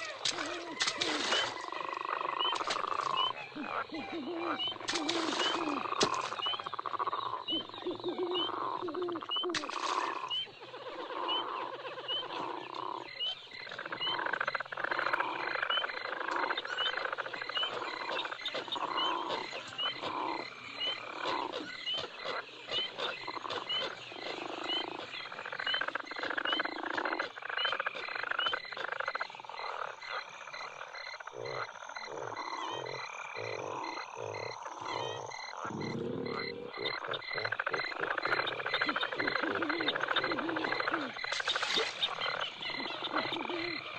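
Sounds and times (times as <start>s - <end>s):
frogs croaking: 0.0s - 43.9s
insects chirping: 0.0s - 43.9s.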